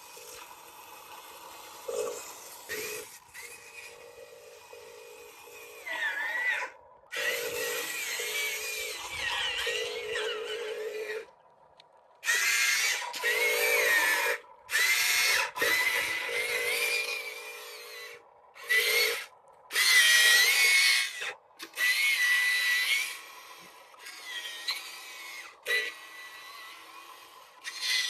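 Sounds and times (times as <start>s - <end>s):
small electric motor whining: 0.0s - 11.4s, 12.2s - 28.0s.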